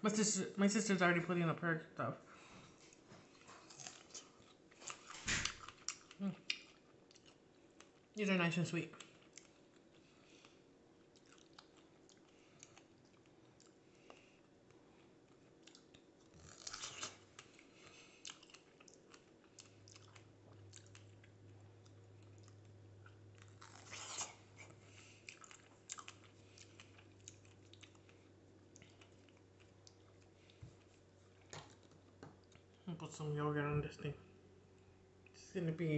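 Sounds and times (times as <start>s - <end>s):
low steady hum: 0.0s - 35.9s
person chewing strawberries: 2.4s - 8.2s, 8.9s - 32.8s.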